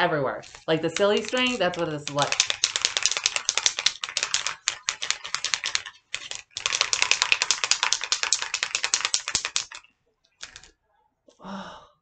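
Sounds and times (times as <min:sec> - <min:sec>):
spray can rattling: 0:00.4 - 0:10.7.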